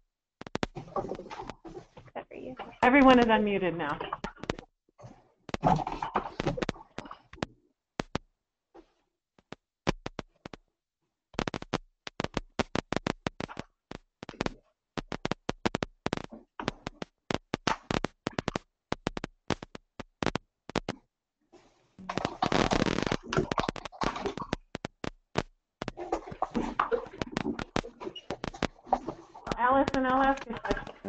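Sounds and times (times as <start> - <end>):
clicks and crackles on phone line: 0.4 - 3.3, 4.0 - 10.6, 11.4 - 21.0, 22.1 - 31.0.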